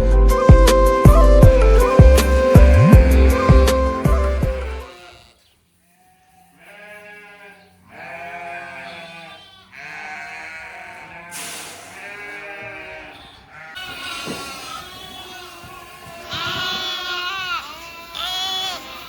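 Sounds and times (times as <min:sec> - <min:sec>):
sheep bleating: 0:01.5 - 0:19.0.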